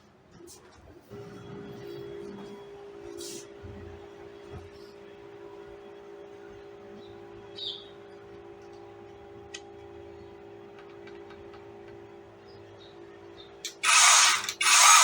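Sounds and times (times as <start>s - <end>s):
low hum of held tones: 0.0s - 14.6s.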